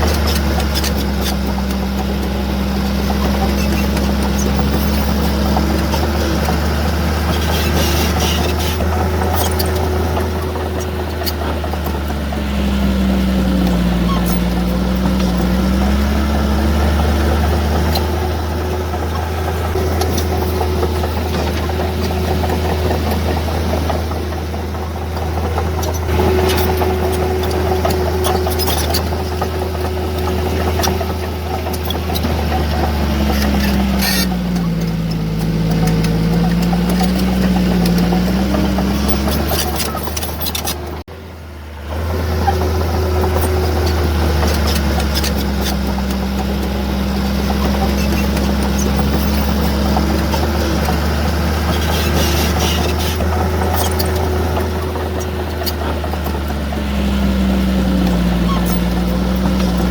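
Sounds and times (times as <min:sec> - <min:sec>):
heavy diesel machine engine running: 0:00.0 - 0:59.9.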